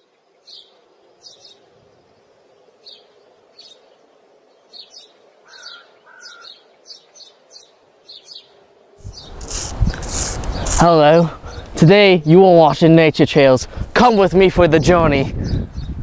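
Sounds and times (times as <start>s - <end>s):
faint steady hum: 0.0s - 14.1s
small birds chirping: 0.0s - 16.0s.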